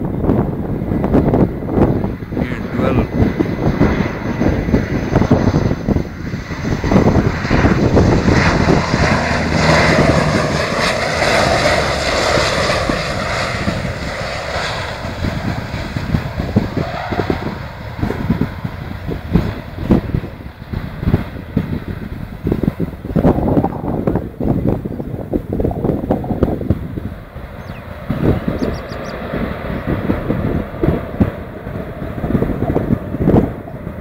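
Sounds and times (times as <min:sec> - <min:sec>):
turboprop engines of landing plane: 0:00.0 - 0:34.0.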